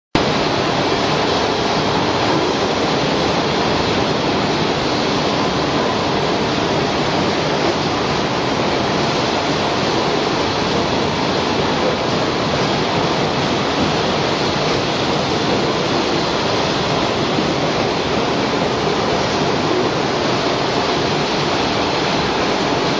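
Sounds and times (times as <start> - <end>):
pipe mill running: 0.2 - 22.9.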